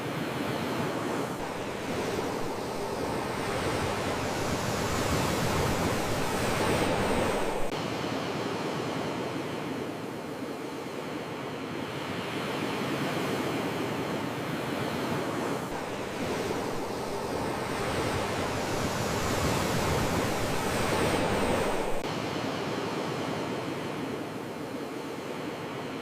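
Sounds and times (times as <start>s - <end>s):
sea waves washing ashore: 0.0s - 26.0s.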